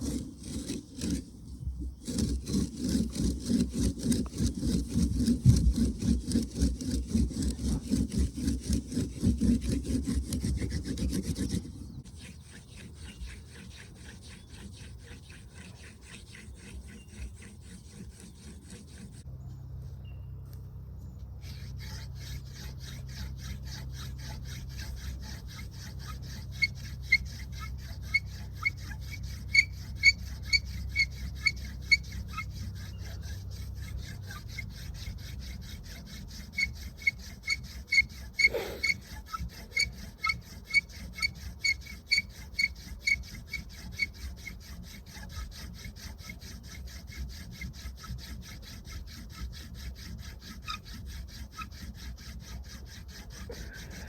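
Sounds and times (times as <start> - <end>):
wooden spindle rubbing and squeaking: 0.0 - 54.0.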